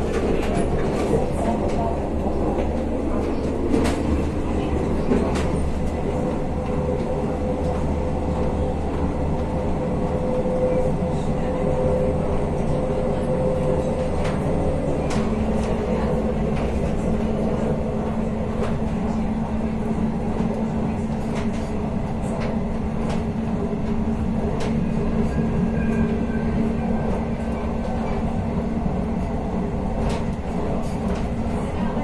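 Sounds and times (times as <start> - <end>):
train humming tone: 0.0 - 32.0
train wheels rumbling on rails: 0.0 - 32.0.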